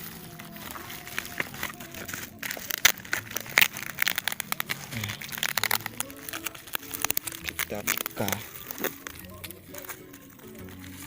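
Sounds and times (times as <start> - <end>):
parcel wrapping crinkling and tearing: 0.0 - 11.0.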